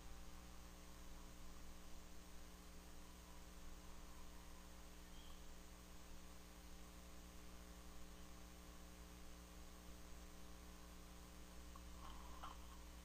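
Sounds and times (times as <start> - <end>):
faint mains hum: 0.0 - 13.0
low hiss: 0.0 - 13.0.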